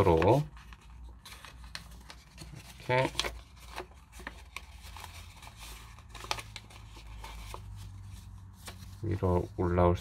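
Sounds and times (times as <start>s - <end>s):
paper crinkling and rustling: 0.0s - 9.5s.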